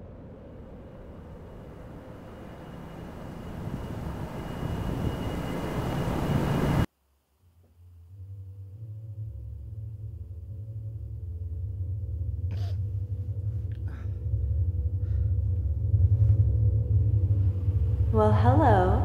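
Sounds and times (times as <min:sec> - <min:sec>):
rushing noise with deep rumble: 0:00.0 - 0:06.9, 0:09.2 - 0:19.0
low steady hum: 0:00.0 - 0:19.0.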